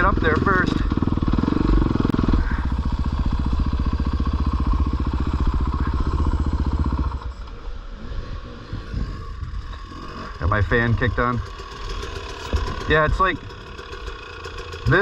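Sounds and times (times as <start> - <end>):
dirt bike engine: 0.0 - 15.0.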